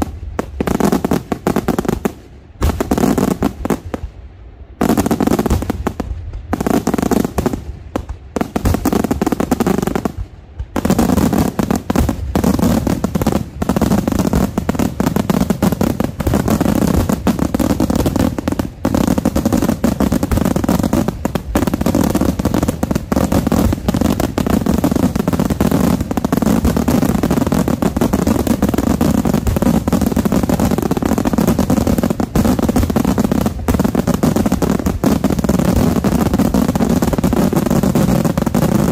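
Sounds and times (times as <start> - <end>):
fireworks bursting: 0.0 - 38.9.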